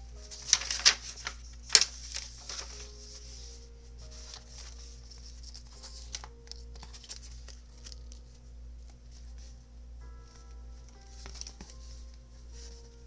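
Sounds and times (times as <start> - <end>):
faint music with held notes: 0.0 - 13.0
paper pages rustling: 0.1 - 9.6, 10.3 - 13.0.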